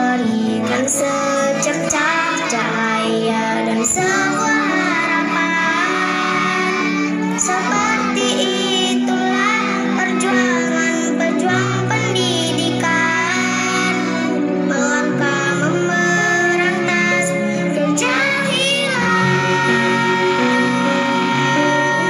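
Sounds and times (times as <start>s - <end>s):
backing music with held chords: 0.0s - 22.0s
children singing together: 0.0s - 22.0s.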